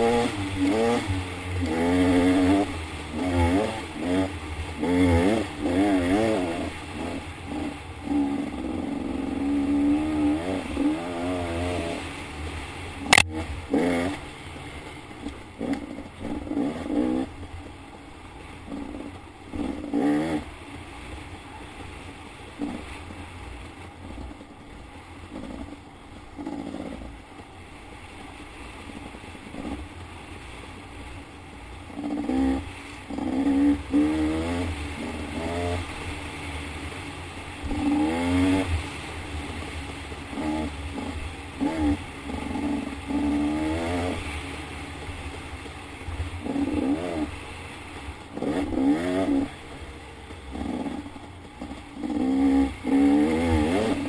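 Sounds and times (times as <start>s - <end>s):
dirt bike engine revving: 0.0s - 17.5s, 18.4s - 20.7s, 22.5s - 23.0s, 25.2s - 27.2s, 31.8s - 54.0s.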